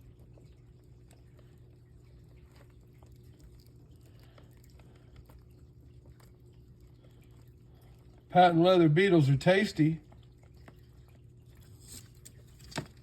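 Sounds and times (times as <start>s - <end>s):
lizard chewing crunches: 0.0s - 8.4s, 10.0s - 13.0s.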